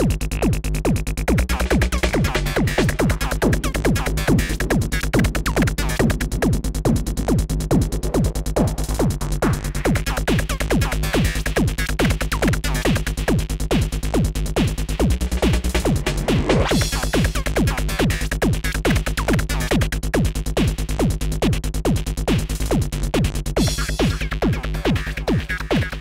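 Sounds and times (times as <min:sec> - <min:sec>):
psytrance electronic music: 0:00.0 - 0:26.0.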